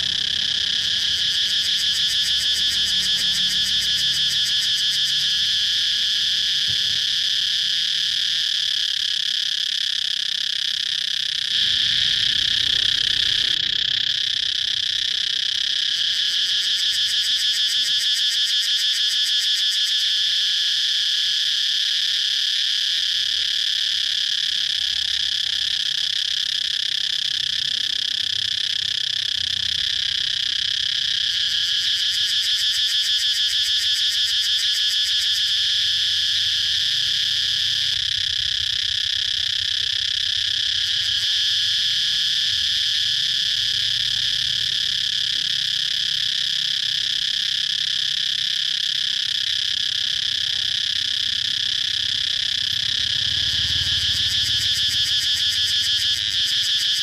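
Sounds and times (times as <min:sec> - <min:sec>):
cicadas chirping: 0:00.0 - 0:57.0.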